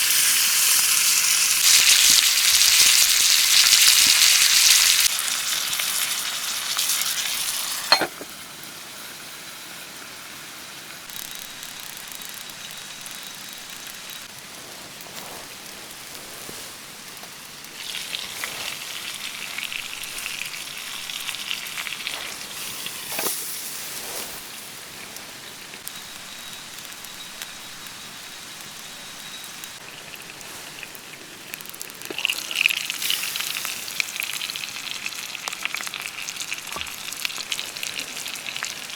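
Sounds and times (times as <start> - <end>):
food sizzling over campfire: 0.0 - 38.9.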